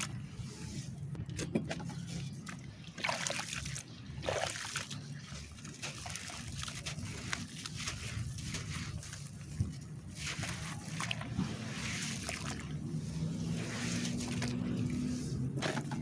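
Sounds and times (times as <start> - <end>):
hands squeezing wet mud: 0.0 - 16.0
water splashing and sloshing: 0.0 - 16.0.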